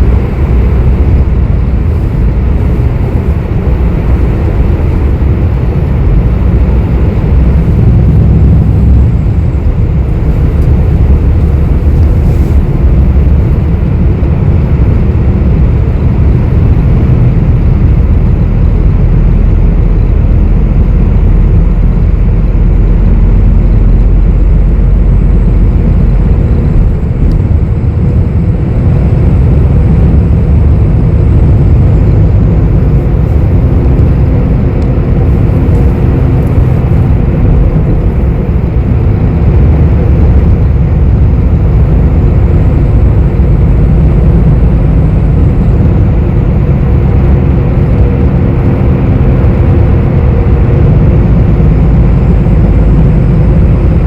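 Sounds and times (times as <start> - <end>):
bus engine rumbling: 0.0 - 54.0
road noise: 0.0 - 54.0.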